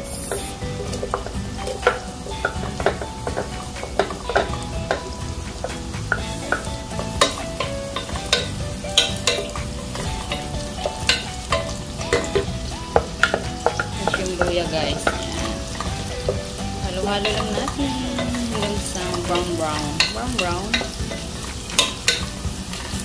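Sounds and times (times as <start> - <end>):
onion sizzling in hot oil: 0.0 - 23.0.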